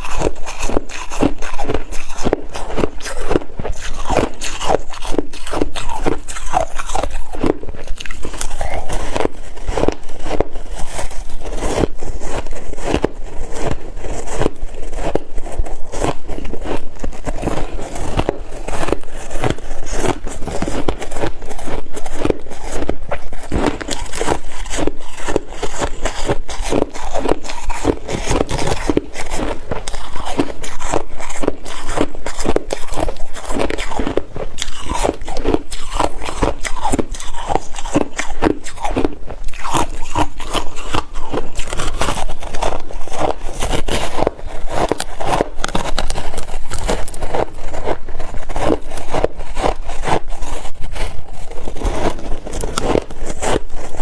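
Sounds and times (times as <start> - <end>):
person chewing ice: 0.0 - 54.0.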